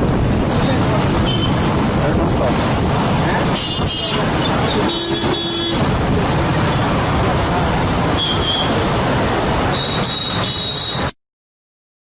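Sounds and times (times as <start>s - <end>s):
loud steady traffic-like noise: 0.0s - 11.2s.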